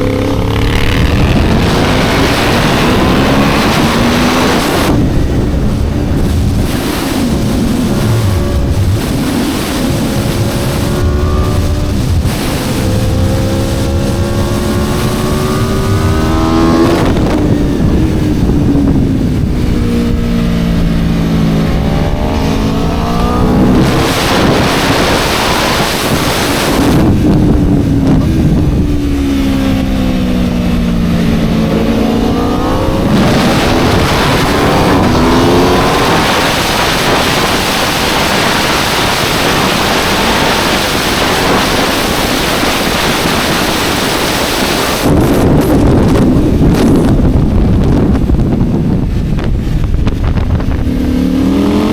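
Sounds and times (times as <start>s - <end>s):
motorcycle engine accelerating: 0.0s - 51.9s
wind rushing over microphone: 0.0s - 51.9s.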